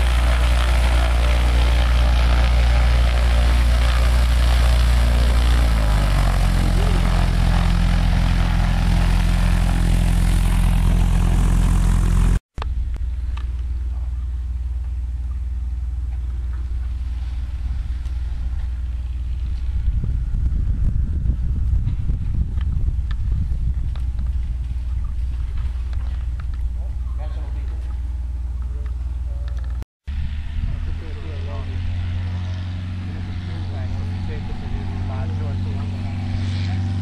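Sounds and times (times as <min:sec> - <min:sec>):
aircraft piston engine and propeller: 0:00.0 - 0:26.8, 0:27.6 - 0:37.0.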